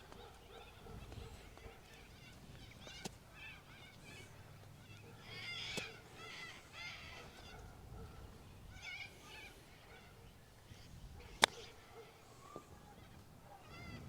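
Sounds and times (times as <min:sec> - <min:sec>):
distant birds calling: 0:00.0 - 0:14.0.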